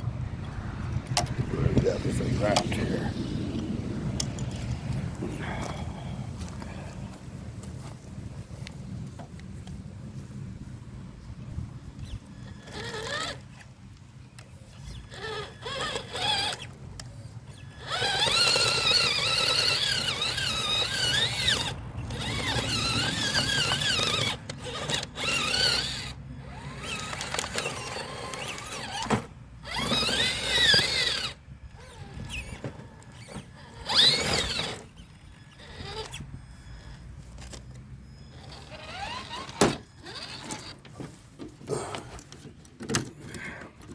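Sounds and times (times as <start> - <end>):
electric motor whining: 0.3 - 7.2, 11.9 - 13.7, 14.3 - 40.9.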